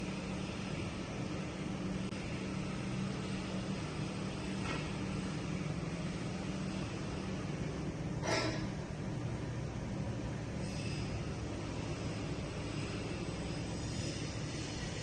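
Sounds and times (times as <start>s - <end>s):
engine idling with low hum: 0.0s - 15.0s.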